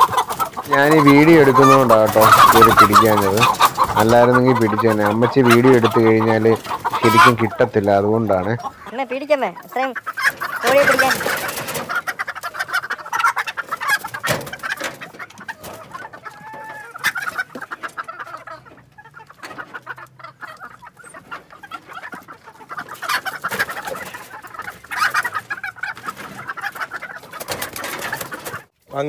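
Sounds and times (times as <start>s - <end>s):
chickens squawking in alarm: 0.0s - 28.8s
chickens clucking: 0.0s - 29.0s.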